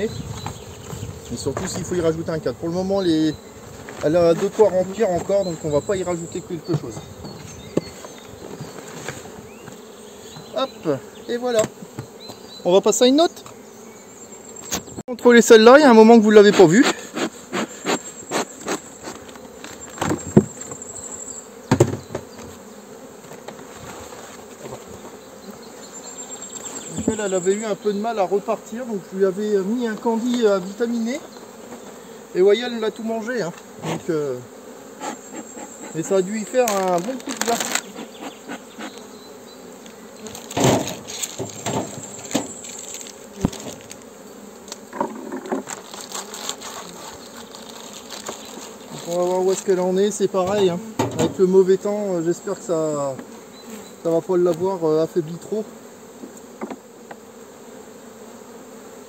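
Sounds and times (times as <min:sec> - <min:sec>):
wooden hive knocks and clunks: 0:00.0 - 0:10.8, 0:11.4 - 0:13.7, 0:14.6 - 0:25.8, 0:26.4 - 0:29.0, 0:29.6 - 0:57.4
bees buzzing: 0:00.0 - 0:59.0
honeybees humming: 0:00.0 - 0:59.0.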